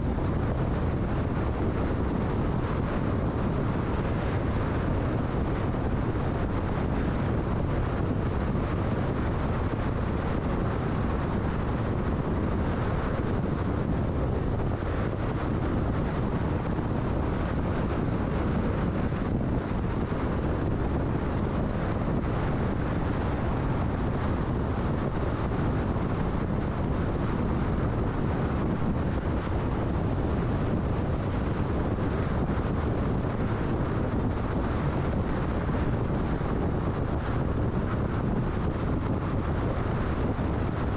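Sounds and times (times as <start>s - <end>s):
tyre and wind noise: 0.0s - 40.9s.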